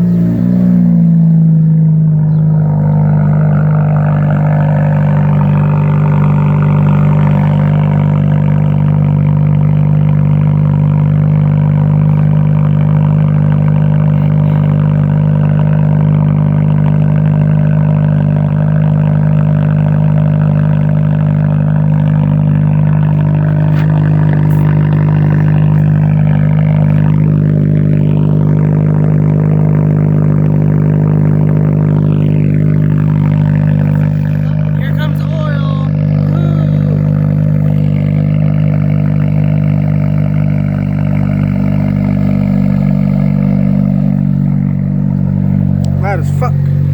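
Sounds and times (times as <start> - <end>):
engine droning through exhaust: 0.0 - 46.9.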